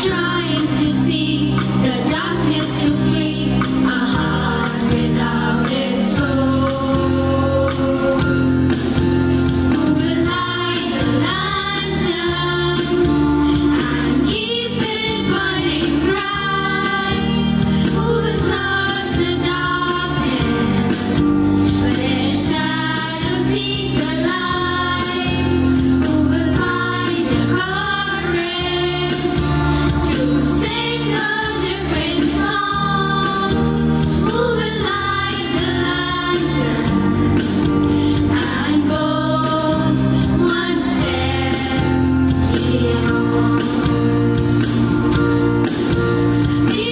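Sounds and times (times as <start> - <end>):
girls choir singing: 0.0 - 8.2, 9.7 - 44.2, 46.6 - 46.9
instrumental accompaniment: 0.0 - 46.9.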